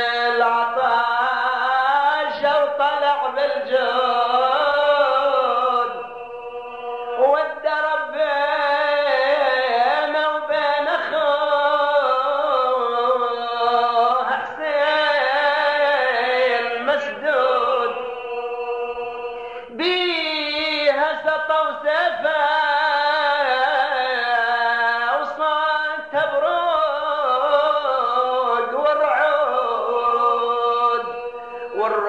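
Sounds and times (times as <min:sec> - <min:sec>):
man chanting: 0:00.0 - 0:32.0.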